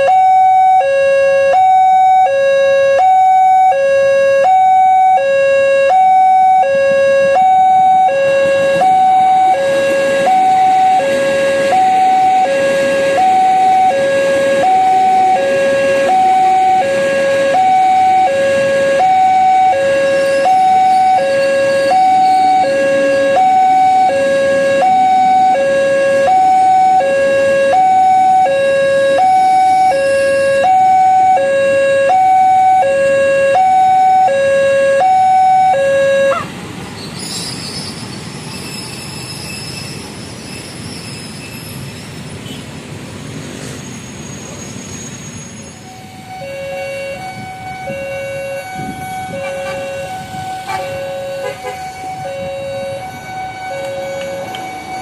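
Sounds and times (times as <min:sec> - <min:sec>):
two-tone crossing alarm: 0:00.0 - 0:36.5, 0:45.6 - 0:55.0
passing train rumble: 0:06.3 - 0:55.0.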